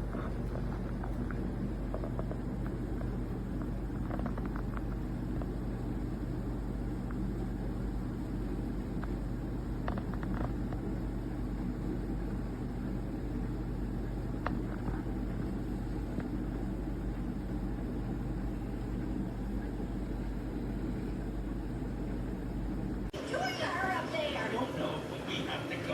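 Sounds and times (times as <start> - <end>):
tumble dryer motor hum: 0.0 - 25.9.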